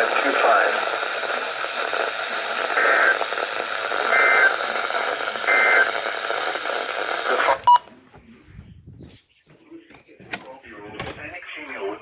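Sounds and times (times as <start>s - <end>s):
radio hiss: 0.0s - 8.4s, 10.6s - 12.0s.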